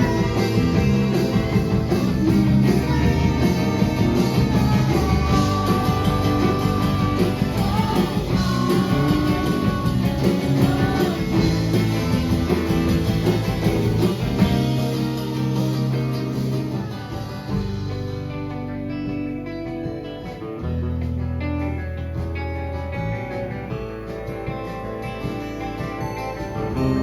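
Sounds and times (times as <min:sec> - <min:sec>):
electric guitars: 0:00.0 - 0:27.0
live band playing: 0:00.0 - 0:27.0.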